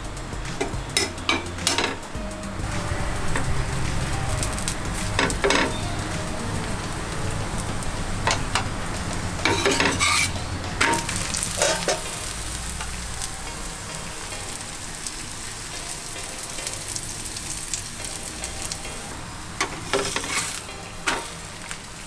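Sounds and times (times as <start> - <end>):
flatbread sizzling in oil: 0.0 - 22.0.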